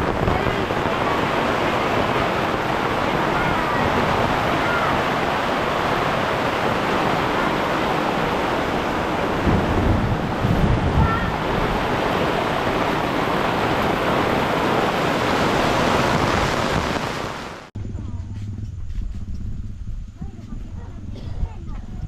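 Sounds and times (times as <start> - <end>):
water rushing: 0.0 - 17.7
low bumps: 0.0 - 22.0.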